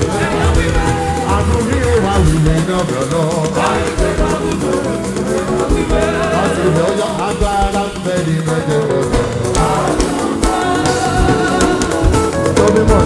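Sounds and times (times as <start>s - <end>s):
choir singing a hymn: 0.0s - 13.0s
low drum beats: 0.0s - 13.0s.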